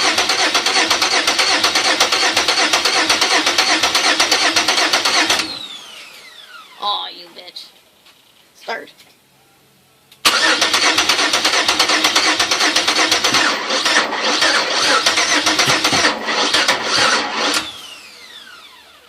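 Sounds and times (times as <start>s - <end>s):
car engine cranking on starter: 0.0s - 6.8s, 10.2s - 19.0s
starter whine spinning down: 0.0s - 6.8s, 10.3s - 19.0s.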